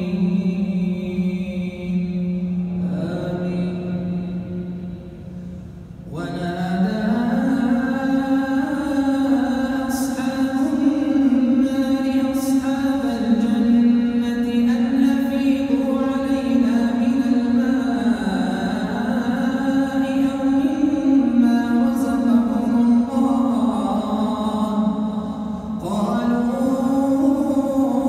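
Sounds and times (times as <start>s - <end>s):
man chanting melodically: 0.0s - 5.1s, 6.0s - 28.0s.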